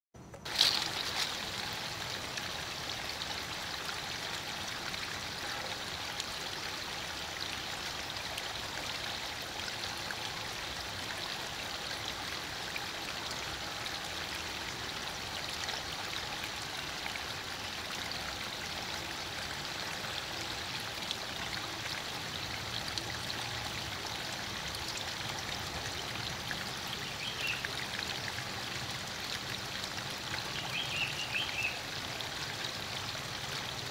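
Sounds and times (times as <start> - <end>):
stream rushing and burbling: 0.4 - 33.9.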